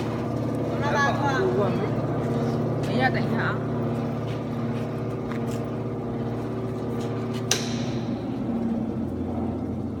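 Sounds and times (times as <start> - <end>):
vibrating feeder electric hum: 0.0 - 10.0.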